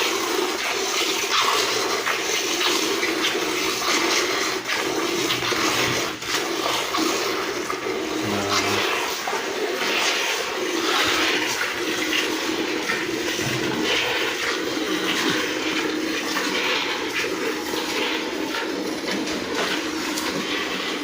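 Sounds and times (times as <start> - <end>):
milk squirting into a pail: 0.0 - 21.0.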